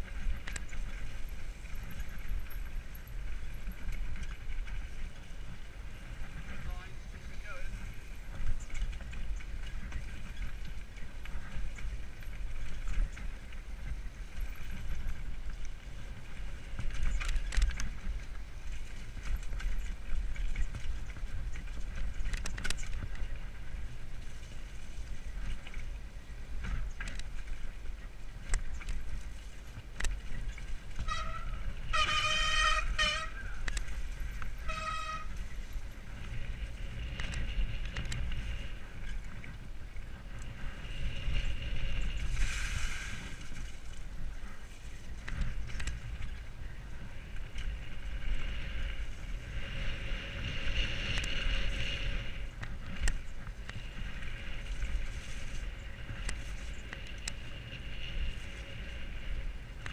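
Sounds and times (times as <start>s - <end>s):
wind buffeting: 0.0s - 59.9s.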